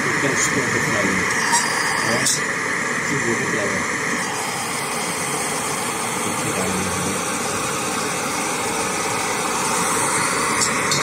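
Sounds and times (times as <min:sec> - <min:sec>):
gas stove burning: 0:00.0 - 0:11.0
space heater humming: 0:00.0 - 0:11.0.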